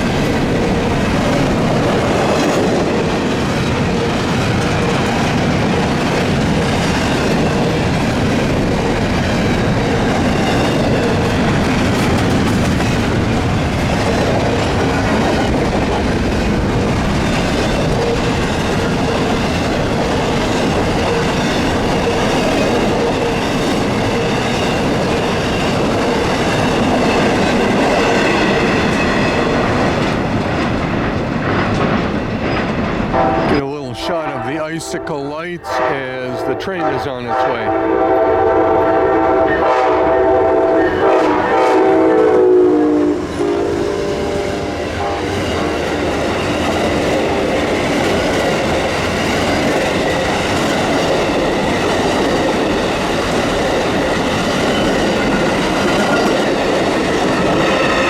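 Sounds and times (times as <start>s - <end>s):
freight train wheels clattering: 0.0s - 34.4s, 43.2s - 58.0s.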